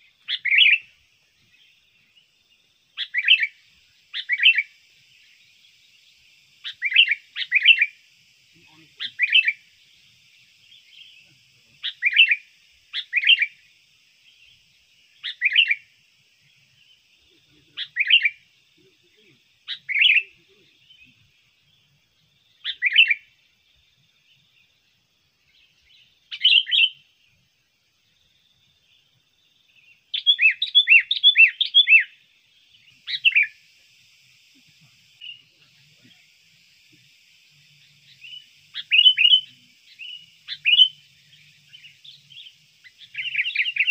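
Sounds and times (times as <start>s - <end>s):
bulbul bird calls: 0.0s - 23.4s, 25.6s - 27.2s, 29.8s - 43.9s
faint high hiss: 0.0s - 43.9s.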